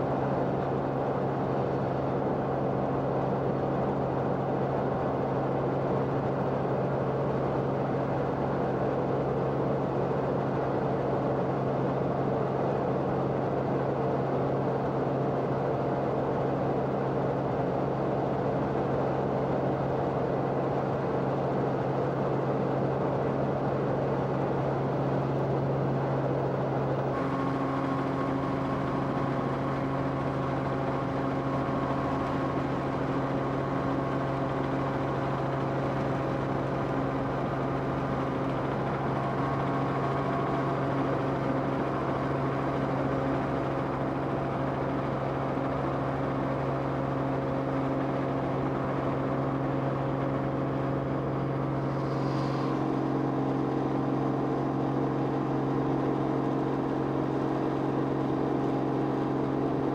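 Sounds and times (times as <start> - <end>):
aircraft engine drone in cabin: 0.0 - 59.9.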